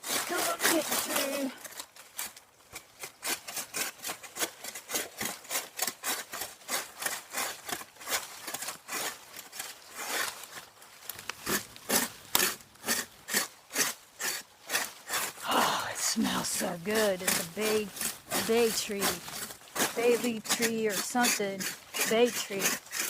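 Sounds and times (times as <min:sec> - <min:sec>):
hand saw cutting wood: 0:00.0 - 0:23.0.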